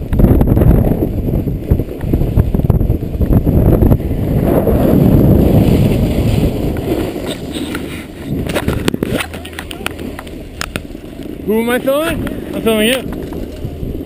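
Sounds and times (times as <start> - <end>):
wind buffeting microphone: 0.0 - 14.0
skis scraping snow: 1.7 - 14.0.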